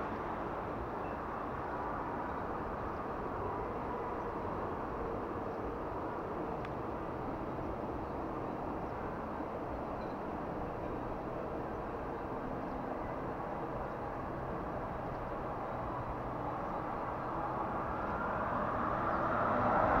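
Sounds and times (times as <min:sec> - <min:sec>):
bus engine and tyre noise: 0:00.0 - 0:20.0.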